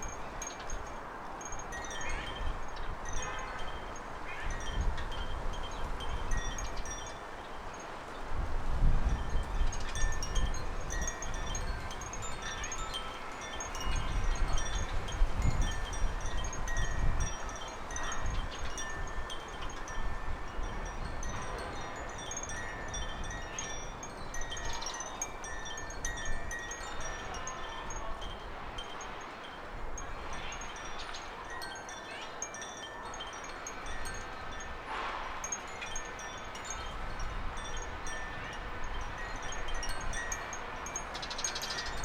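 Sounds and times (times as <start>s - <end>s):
wind chime ringing: 0.0s - 7.8s, 9.0s - 42.0s
wind buffeting microphone: 0.0s - 42.0s.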